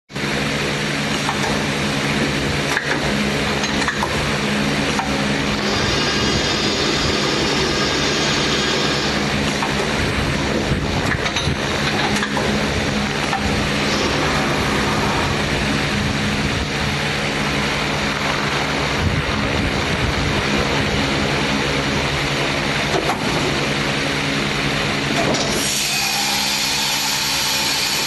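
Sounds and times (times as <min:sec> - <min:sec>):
high machine whine: 0:00.1 - 0:28.0
machine hum with hiss: 0:00.1 - 0:28.0.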